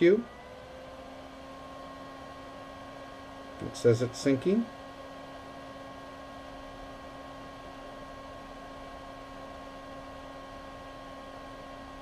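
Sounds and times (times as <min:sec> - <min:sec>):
small blower fan humming: 0:00.0 - 0:12.0.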